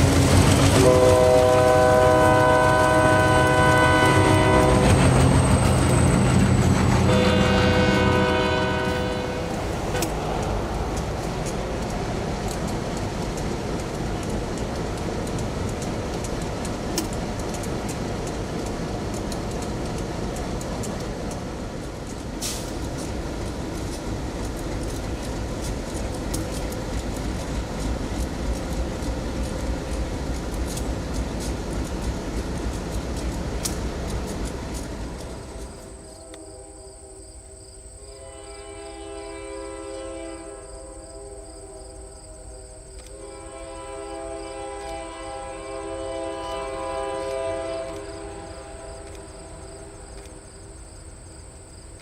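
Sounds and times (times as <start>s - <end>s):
sharp clicks from train wheels: 0.0s - 39.2s, 40.4s - 52.0s
train wheels rumbling on rail: 0.0s - 52.0s.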